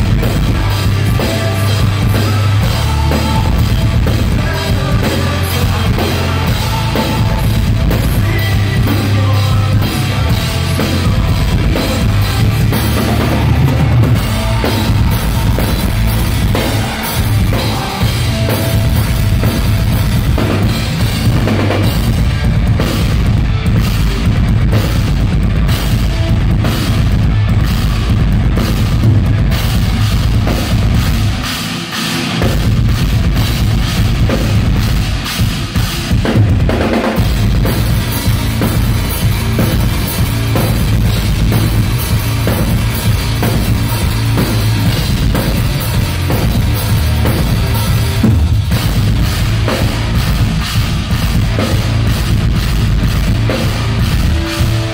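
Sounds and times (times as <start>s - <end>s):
heavy metal band playing: 0.0s - 54.9s
pounding bass drum: 0.0s - 54.9s.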